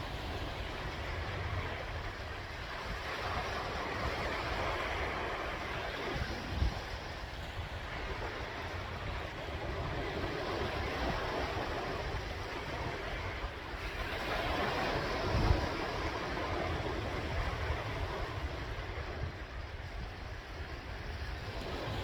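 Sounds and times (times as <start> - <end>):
sea waves breaking: 0.0 - 22.0
wind rumble on microphone: 0.0 - 22.0.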